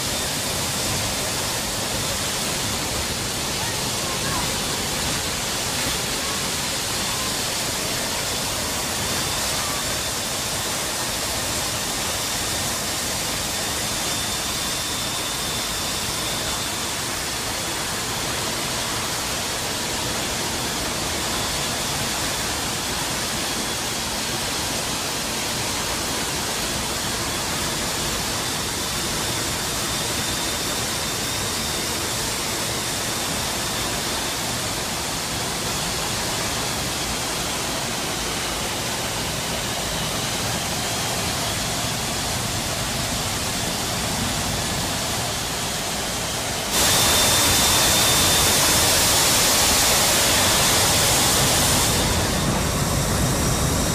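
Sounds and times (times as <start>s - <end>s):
aircraft engine noise: 0.0s - 53.9s
faint high whine: 0.0s - 53.9s
rush of wind: 0.0s - 53.9s.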